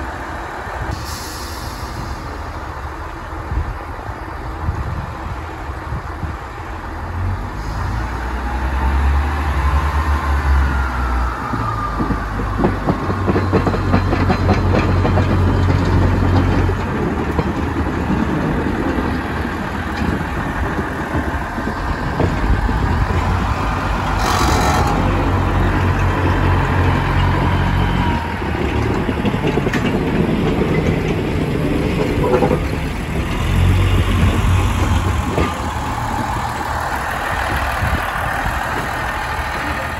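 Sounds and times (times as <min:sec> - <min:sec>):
diesel railcar engine drone: 0:00.0 - 0:39.9
train wheels rumbling: 0:00.0 - 0:39.9.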